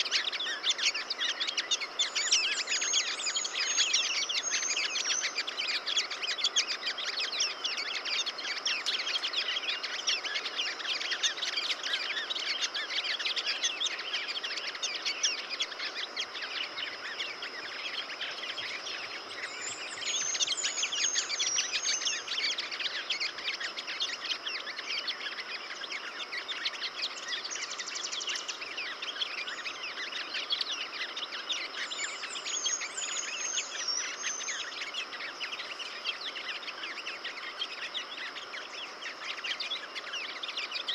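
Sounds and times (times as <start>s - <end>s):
birds chirping in chorus: 0.0s - 40.9s
high twittering bird song: 0.0s - 40.9s.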